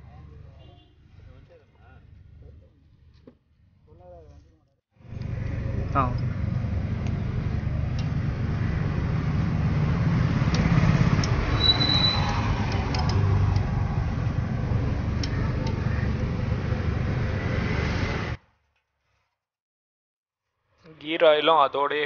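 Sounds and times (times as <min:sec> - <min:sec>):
low rumble of outdoor background: 0:00.0 - 0:18.3.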